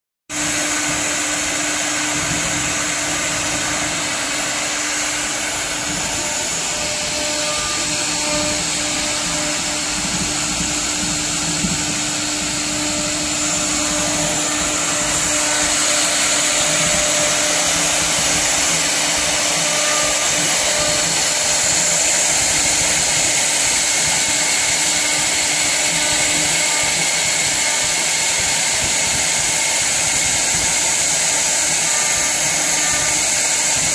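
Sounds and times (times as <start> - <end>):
cnc router spindle whine: 0.3 - 33.9.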